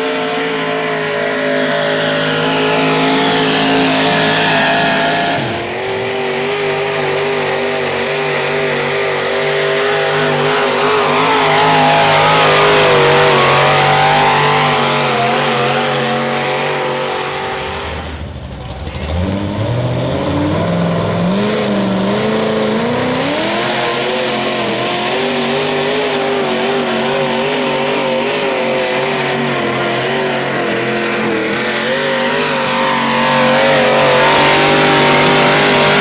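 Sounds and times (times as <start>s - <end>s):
tractor engine revving: 0.0s - 36.0s.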